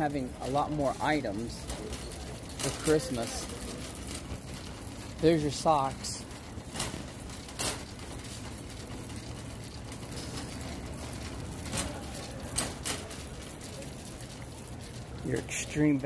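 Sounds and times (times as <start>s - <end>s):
cart clicks and rattles: 0.0s - 16.0s
shopping cart rolling on concrete: 0.0s - 16.0s.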